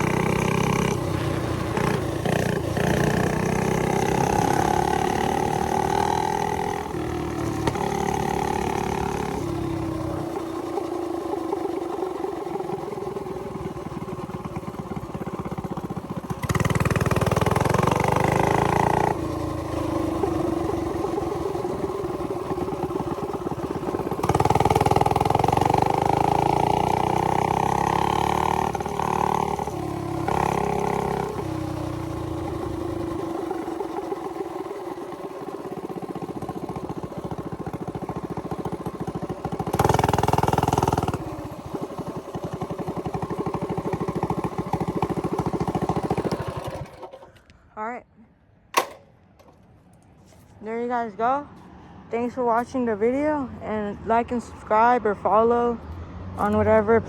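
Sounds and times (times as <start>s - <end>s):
mini bike engine revving: 0.0s - 47.5s.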